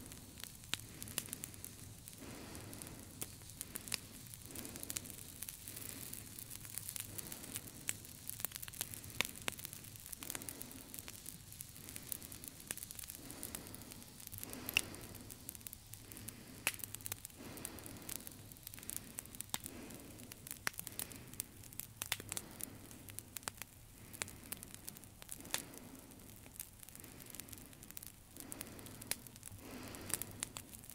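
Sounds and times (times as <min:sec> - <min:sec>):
crackling rustling noise: 0:00.0 - 0:30.9.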